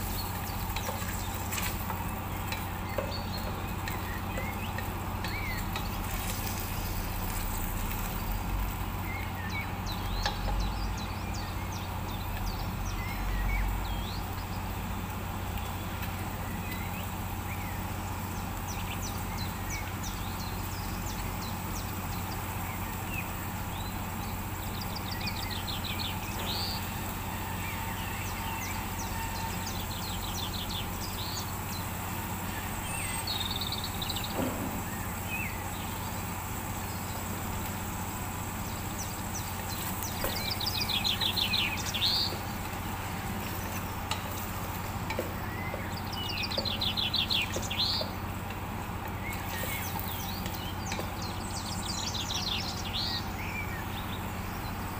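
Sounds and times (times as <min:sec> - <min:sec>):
small birds chirping: 0:00.0 - 0:54.9
steady low hum: 0:00.0 - 0:54.9.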